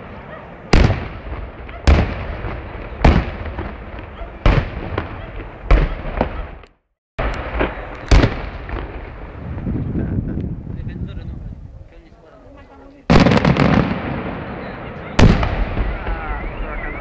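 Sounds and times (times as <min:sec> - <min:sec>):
firework crackling and rumble: 0:00.0 - 0:06.6, 0:07.2 - 0:12.1, 0:13.0 - 0:17.0.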